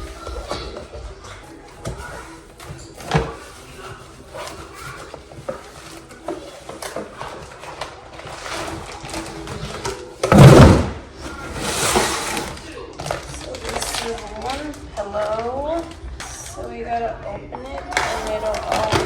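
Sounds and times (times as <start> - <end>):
parcel rustling and crinkling: 0.0 - 16.7, 17.7 - 19.0.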